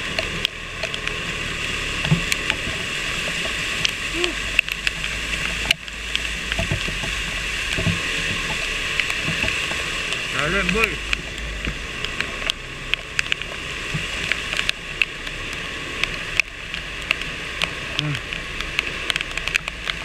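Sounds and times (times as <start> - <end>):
water splashing against motorcycle: 0.0 - 20.0.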